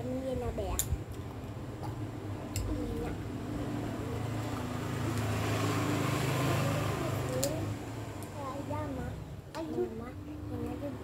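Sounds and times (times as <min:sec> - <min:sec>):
vehicle passing by: 0:02.0 - 0:11.0.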